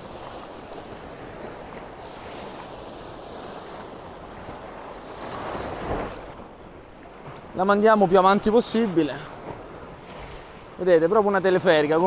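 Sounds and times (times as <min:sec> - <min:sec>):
wind on microphone: 0:00.0 - 0:10.8
surf washing over rocks: 0:00.0 - 0:12.0.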